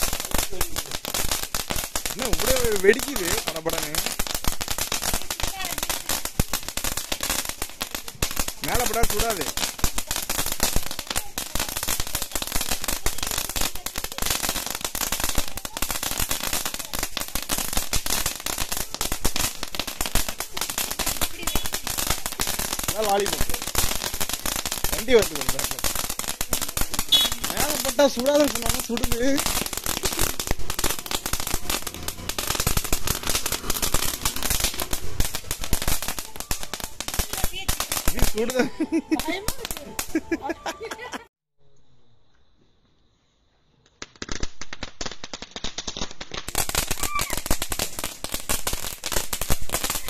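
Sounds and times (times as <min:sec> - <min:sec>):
firecracker crackling pops: 0:00.0 - 0:41.1, 0:43.8 - 0:50.0.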